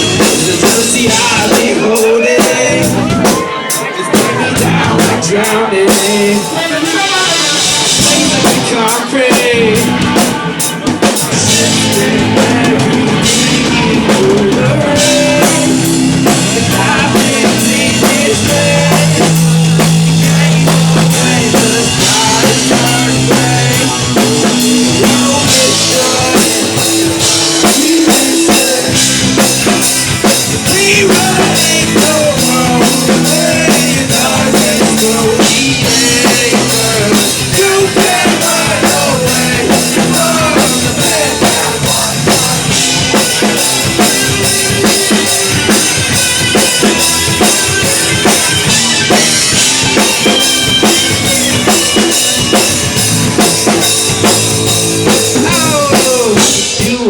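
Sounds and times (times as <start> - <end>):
drum kit beat: 0.0 - 57.0
live rock band playing: 0.0 - 57.0.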